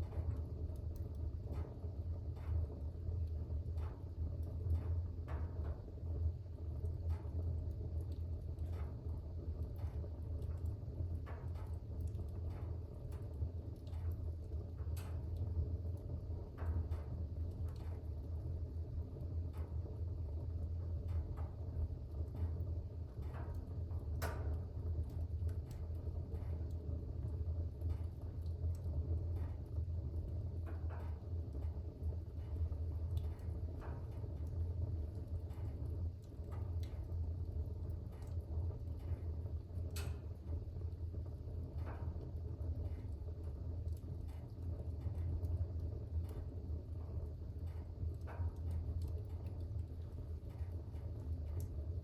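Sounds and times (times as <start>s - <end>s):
crackles and pops of fire: 0.0s - 52.0s
fire burning in fireplace: 0.0s - 52.0s.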